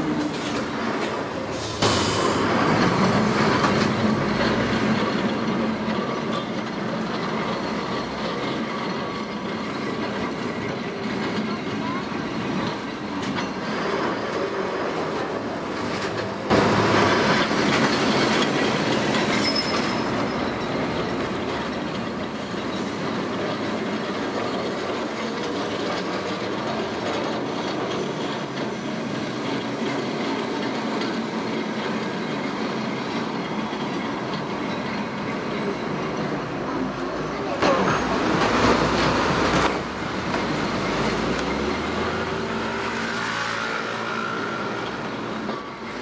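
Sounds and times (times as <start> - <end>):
tram wheels on rails: 0.0 - 46.0.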